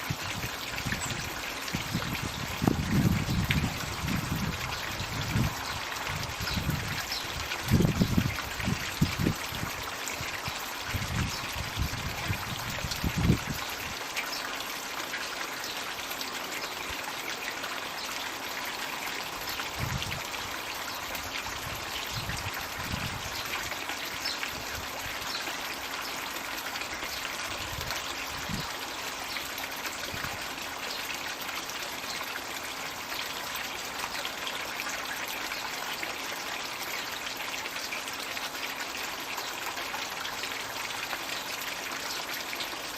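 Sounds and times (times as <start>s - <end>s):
water pouring into a pond: 0.0s - 42.9s.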